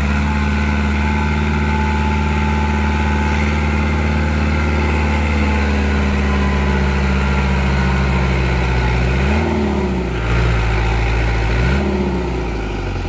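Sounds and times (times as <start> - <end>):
vehicle engine running and revving: 0.0 - 13.0.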